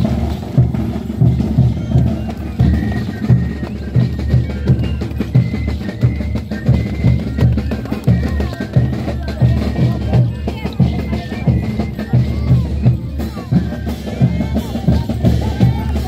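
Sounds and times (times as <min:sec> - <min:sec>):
thin high melody: 0:00.0 - 0:16.0.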